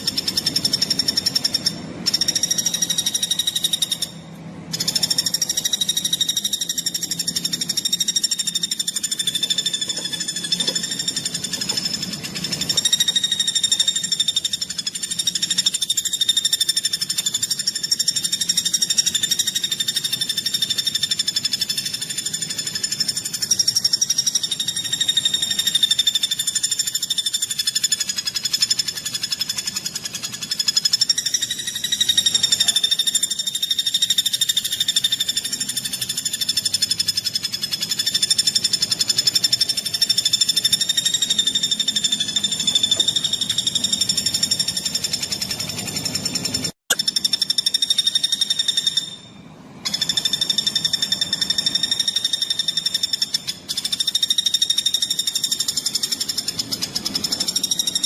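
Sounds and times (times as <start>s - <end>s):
bird rapid buzzing trill: 0.0s - 58.0s.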